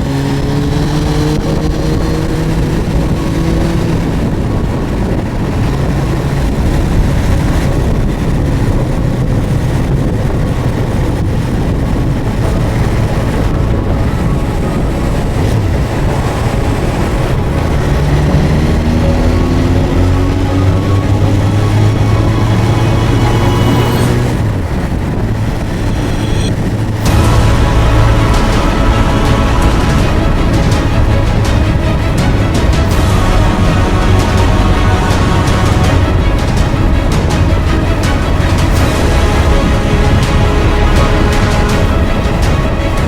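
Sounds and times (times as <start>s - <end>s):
motorcycle engine accelerating: 0.0s - 43.0s
riding noise rushing: 0.0s - 43.0s.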